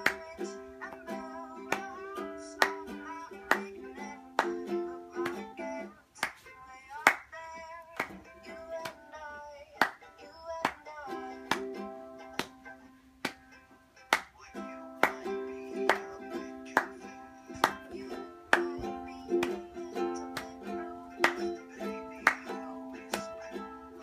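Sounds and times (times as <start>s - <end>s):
ukulele strumming: 0.0s - 24.0s.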